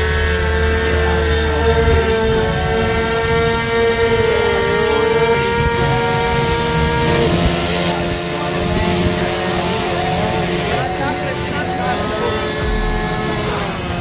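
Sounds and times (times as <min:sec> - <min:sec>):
model airplane engine drone: 0:00.0 - 0:14.0.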